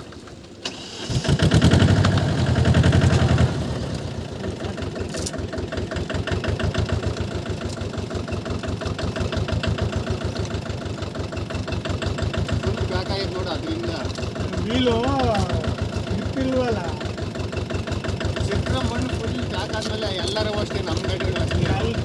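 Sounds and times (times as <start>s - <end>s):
diesel engine starting and idling: 0.0s - 22.0s.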